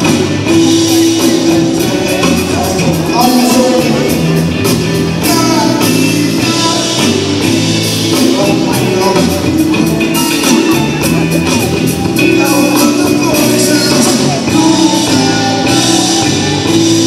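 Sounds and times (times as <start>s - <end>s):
person singing: 0.0s - 17.0s
upbeat dance band music: 0.0s - 17.0s.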